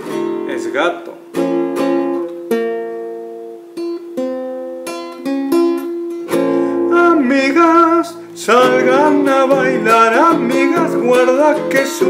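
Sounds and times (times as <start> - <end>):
guitar plucked notes and chords: 0.0 - 12.0.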